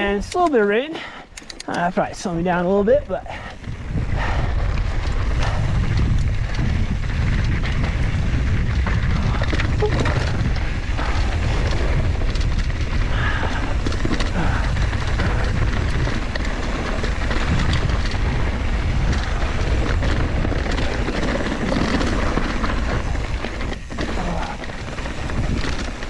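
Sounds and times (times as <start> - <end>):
tyres on dirt: 0.0 - 26.0
bike rattling over rocks: 1.4 - 26.0
wind rushing over microphone: 1.9 - 26.0.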